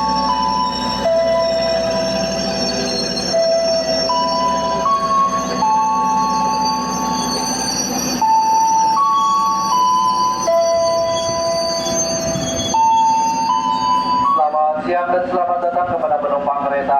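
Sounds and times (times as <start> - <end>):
train wheels squealing: 0.0 - 14.7
low rumble of train: 0.0 - 16.9.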